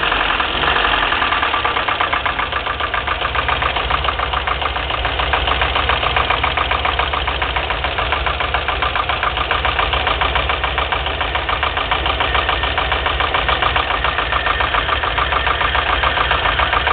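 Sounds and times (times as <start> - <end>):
petrol engine idling with knock: 0.0 - 16.9.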